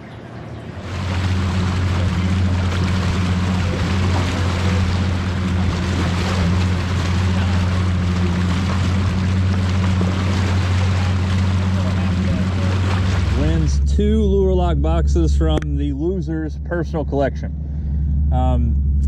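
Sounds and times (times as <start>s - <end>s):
water rushing: 0.0s - 16.3s
motorboat engine drone: 0.0s - 19.0s.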